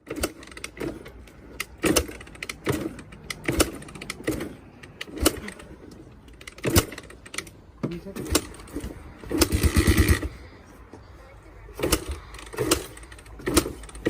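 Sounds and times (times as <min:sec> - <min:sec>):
kick-start lever knocking: 0:00.0 - 0:10.3, 0:11.8 - 0:14.0
low engine rumble: 0:00.0 - 0:14.0.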